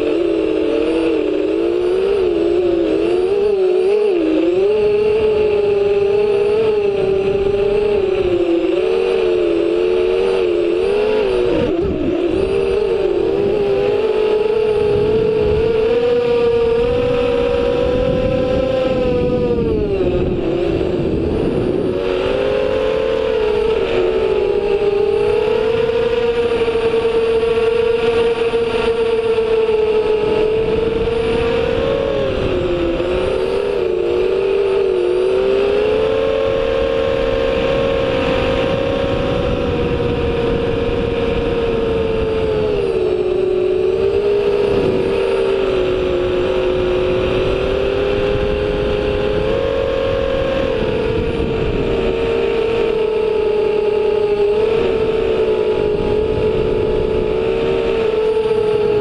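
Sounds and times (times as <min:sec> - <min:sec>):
drone motor whine: 0:00.0 - 0:59.0.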